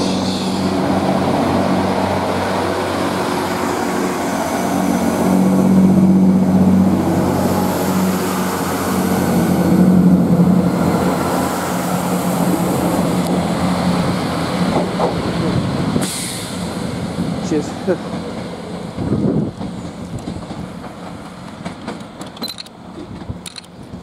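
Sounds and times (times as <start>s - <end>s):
diesel train engines running: 0.0s - 24.0s.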